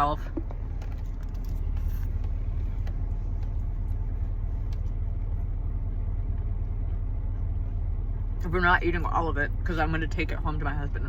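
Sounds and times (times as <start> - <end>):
car idling rumble: 0.0 - 11.0.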